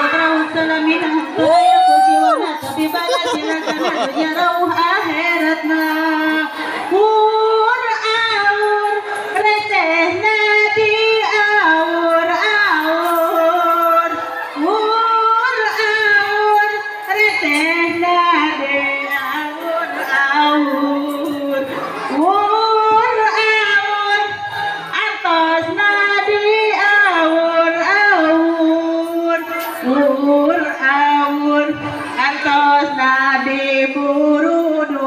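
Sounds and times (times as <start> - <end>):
woman singing slow melody: 0.0 - 35.0.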